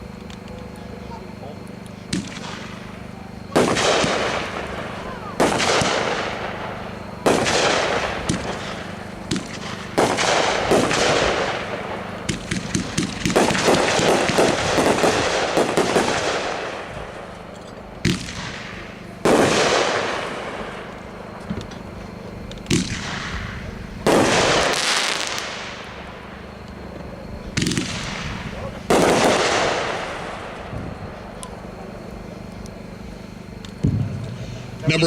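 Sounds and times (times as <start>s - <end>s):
firework shots with crackle: 0.0s - 34.8s.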